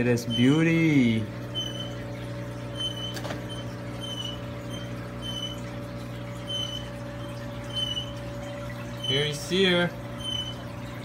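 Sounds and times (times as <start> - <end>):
aquarium equipment hum: 0.0 - 11.0.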